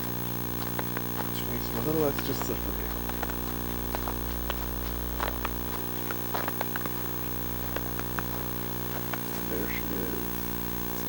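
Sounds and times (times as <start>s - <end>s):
electrical buzz: 0.0s - 11.0s
footsteps in snow: 0.0s - 11.0s.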